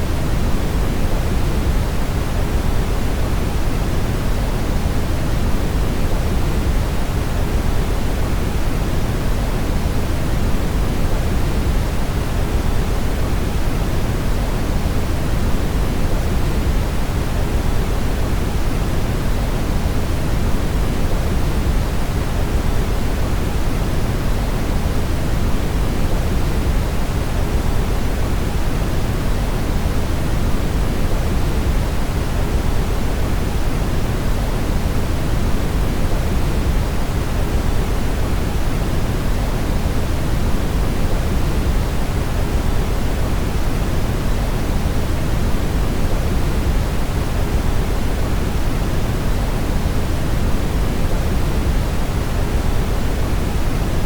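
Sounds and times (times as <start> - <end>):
brown noise hiss: 0.0 - 54.0.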